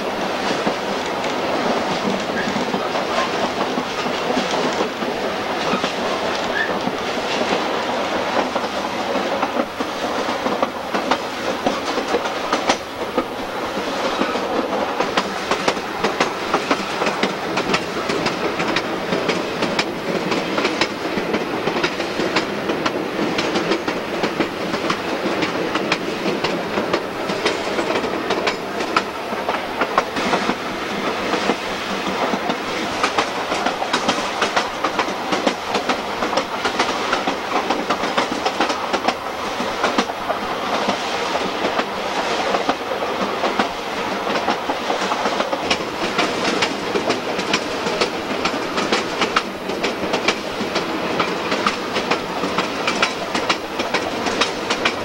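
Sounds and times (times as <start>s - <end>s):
train rolling rumble: 0.0s - 55.0s
wheels clicking over rail joints: 0.2s - 55.0s.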